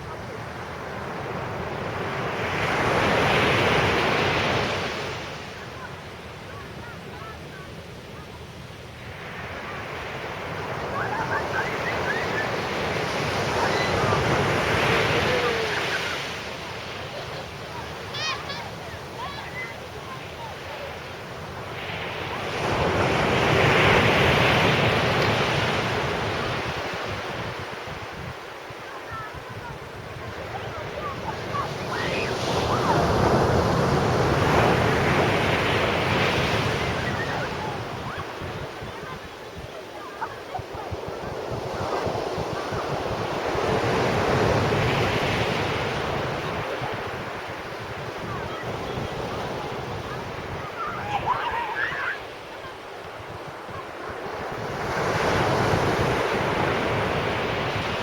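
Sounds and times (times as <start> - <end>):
sea surf breaking on beach: 0.0 - 58.0.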